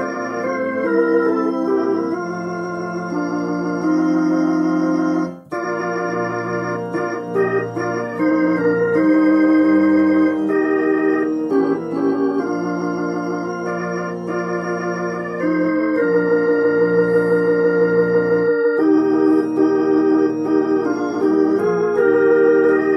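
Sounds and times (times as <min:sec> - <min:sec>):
organ playing hymn chords: 0:00.0 - 0:22.9.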